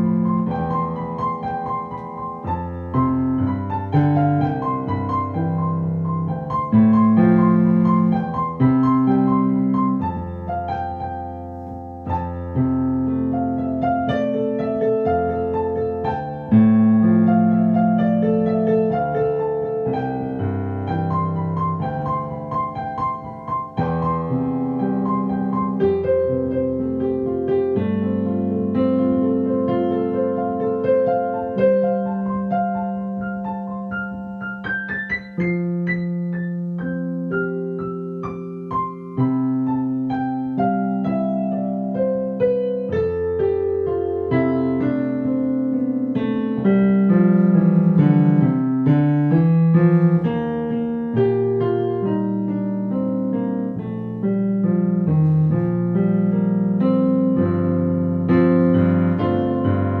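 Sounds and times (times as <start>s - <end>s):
solo piano playing: 0.0s - 60.0s.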